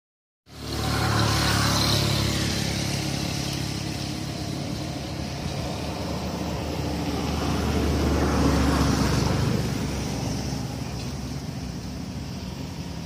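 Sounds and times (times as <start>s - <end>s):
motor engine running: 0.5s - 13.0s.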